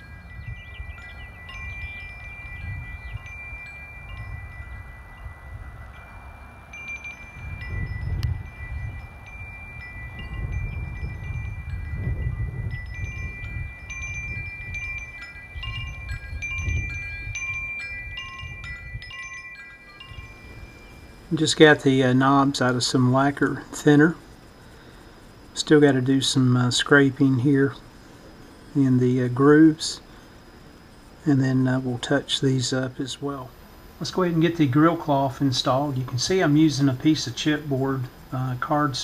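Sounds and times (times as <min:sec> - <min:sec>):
wind chimes ringing: 0:00.0 - 0:39.0
wind gusting on microphone: 0:00.0 - 0:39.0.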